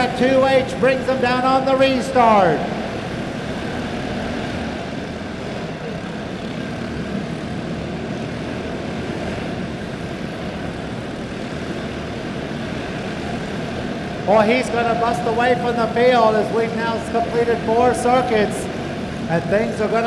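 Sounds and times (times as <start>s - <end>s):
kart engines racing: 0.0s - 20.0s.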